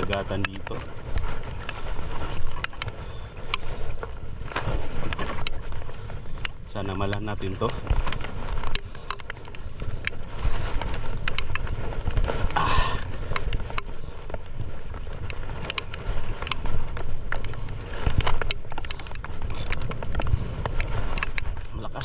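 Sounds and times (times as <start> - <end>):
fishing gear clicks and knocks: 0.0 - 22.0
low wind and water rumble: 0.0 - 22.0.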